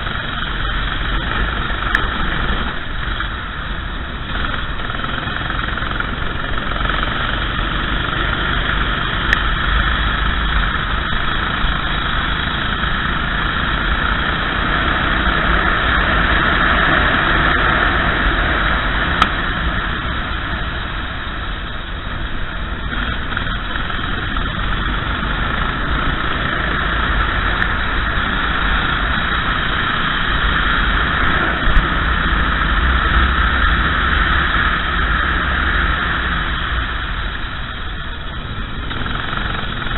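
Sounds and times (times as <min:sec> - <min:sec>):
racing kart engine: 0:00.0 - 0:39.9
wind and track noise: 0:00.0 - 0:39.9.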